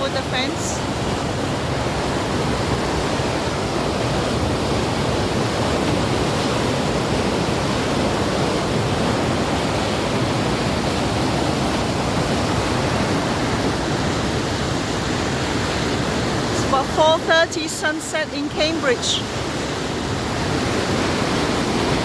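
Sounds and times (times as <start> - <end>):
water rushing through a sluice: 0.0 - 22.0.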